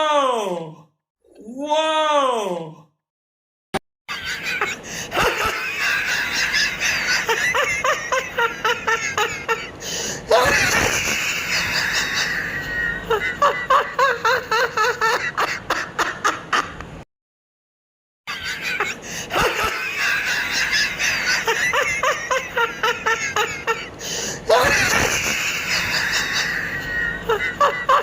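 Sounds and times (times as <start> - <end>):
person giggling: 4.1 - 16.8, 18.3 - 28.0.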